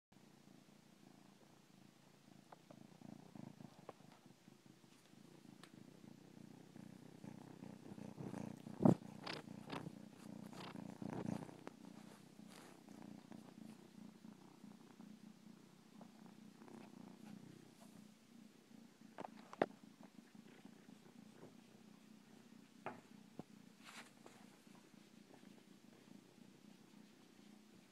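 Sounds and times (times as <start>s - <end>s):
cat purring: 0.2s - 27.9s.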